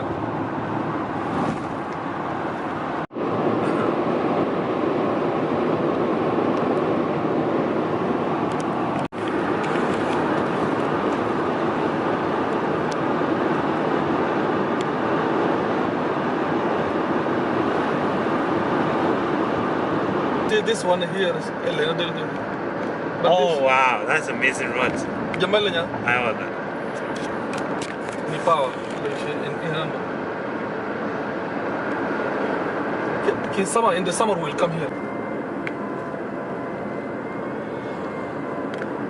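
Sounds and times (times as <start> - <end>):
road and tyre noise in car: 0.0 - 39.0.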